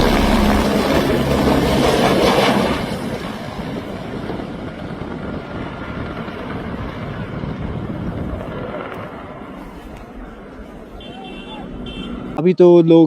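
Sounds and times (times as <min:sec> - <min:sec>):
helicopter turbine and rotor: 0:00.0 - 0:10.8.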